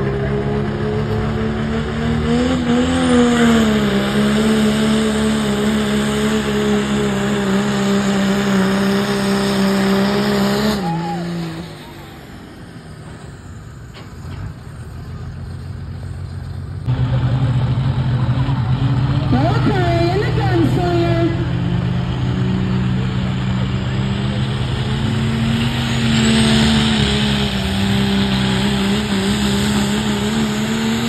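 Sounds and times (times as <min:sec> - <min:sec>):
diesel truck engine: 0:00.0 - 0:31.0.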